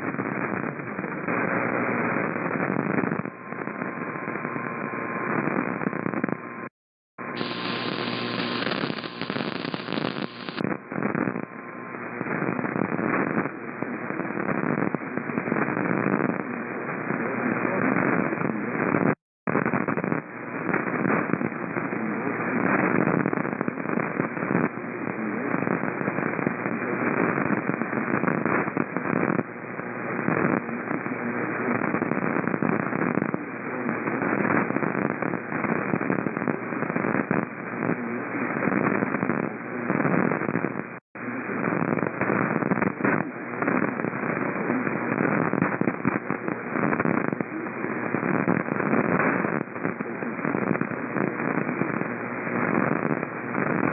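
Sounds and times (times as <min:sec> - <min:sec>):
radio static hiss: 0:00.0 - 0:53.9.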